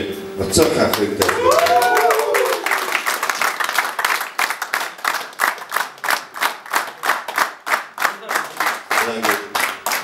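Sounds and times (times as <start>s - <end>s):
audience applauding: 0.9s - 10.0s.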